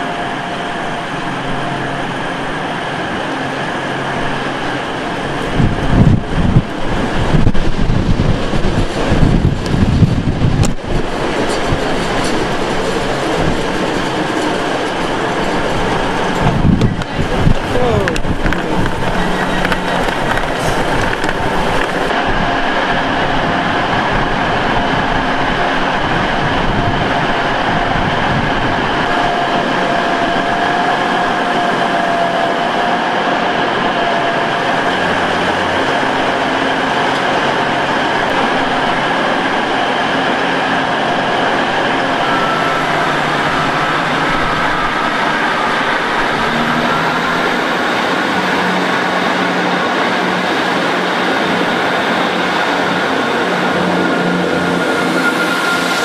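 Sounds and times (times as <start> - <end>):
train engine and rail noise: 0.0 - 56.0.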